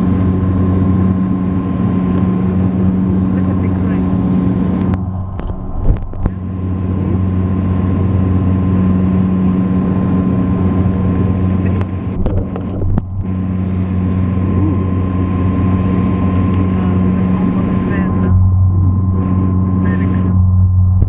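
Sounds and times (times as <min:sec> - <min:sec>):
turboprop engines droning: 0:00.0 - 0:21.0.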